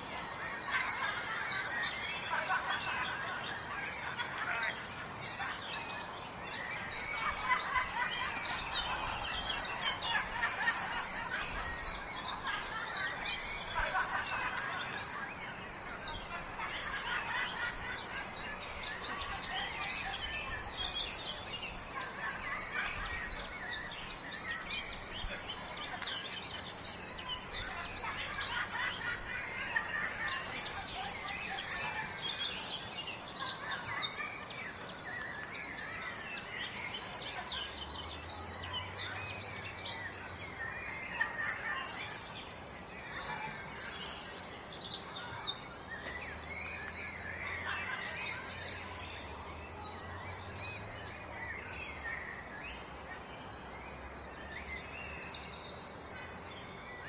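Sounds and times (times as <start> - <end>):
songbirds chirping and singing: 0.0 - 57.0
steady background hiss: 0.0 - 57.0.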